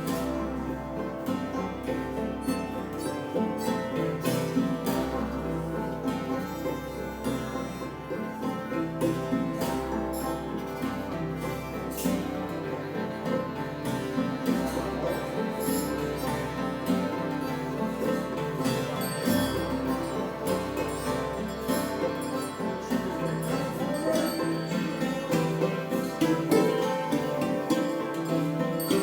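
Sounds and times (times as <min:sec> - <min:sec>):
plucked and bowed strings: 0:00.0 - 0:29.0.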